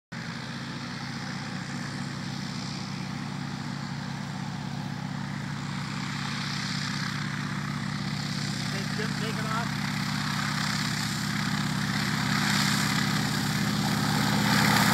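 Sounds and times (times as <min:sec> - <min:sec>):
propeller plane engine running: 0:00.1 - 0:14.9.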